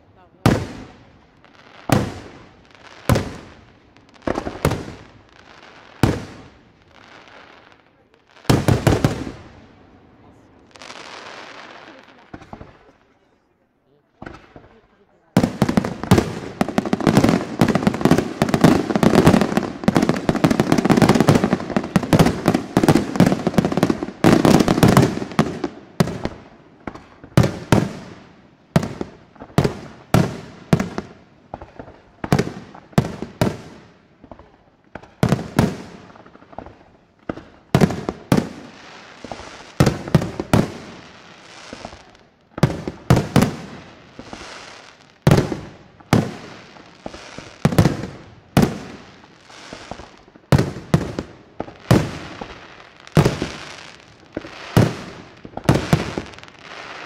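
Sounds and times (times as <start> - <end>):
fireworks banging and crackling: 0.0 - 57.0.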